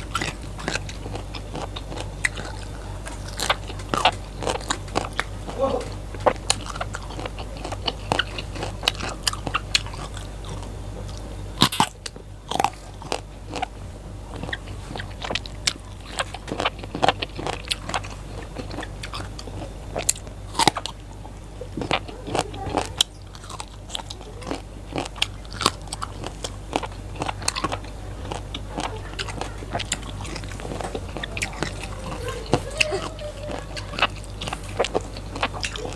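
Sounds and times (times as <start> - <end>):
crunching raw vegetables: 0.0 - 35.9.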